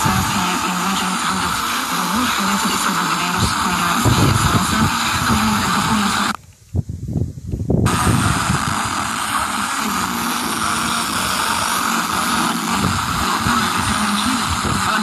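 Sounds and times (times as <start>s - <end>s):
radio static hiss: 0.0s - 6.6s, 7.8s - 15.0s.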